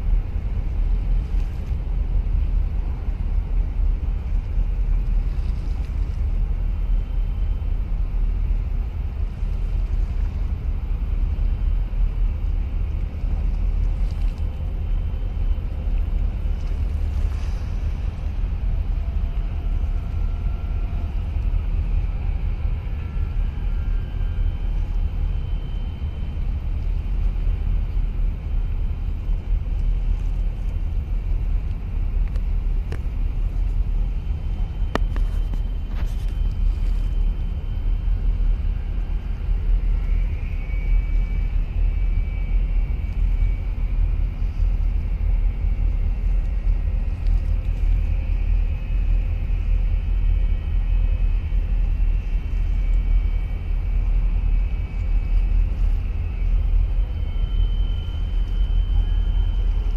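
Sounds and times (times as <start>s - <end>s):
low harbour rumble: 0.0s - 59.9s.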